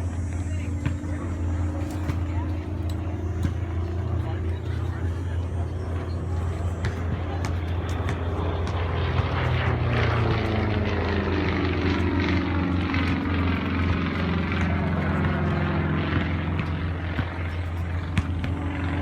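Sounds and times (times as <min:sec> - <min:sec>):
aircraft engine drone flying past: 0:00.0 - 0:19.0.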